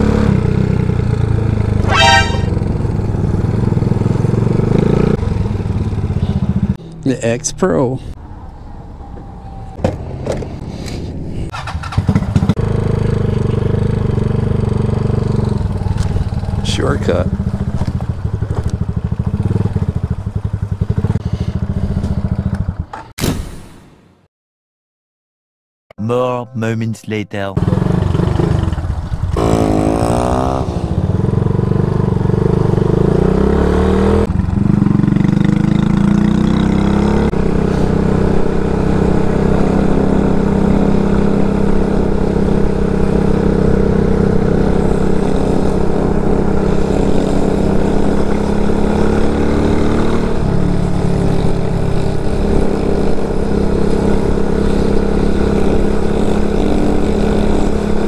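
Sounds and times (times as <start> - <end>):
motorcycle engine accelerating: 0.0 - 7.3, 11.5 - 22.9, 27.6 - 58.0.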